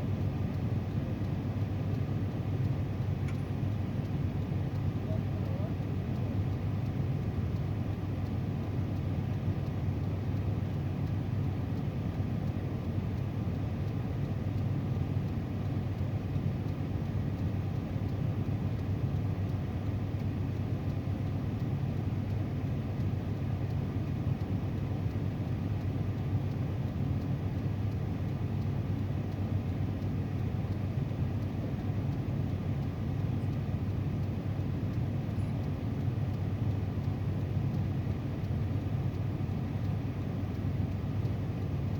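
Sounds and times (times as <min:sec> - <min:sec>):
car engine rumble from inside cabin: 0:00.0 - 0:41.9.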